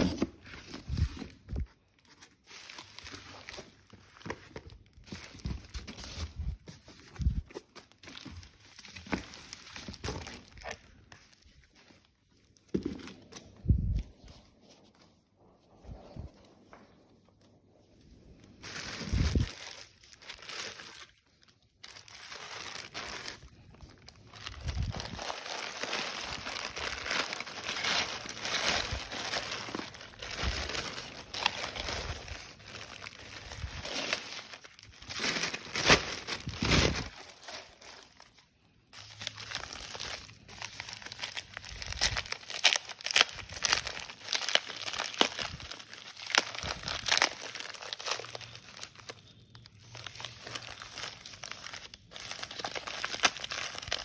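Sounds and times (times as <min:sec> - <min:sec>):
packaging crinkling and rustling: 0:00.0 - 0:15.0, 0:18.3 - 0:54.0.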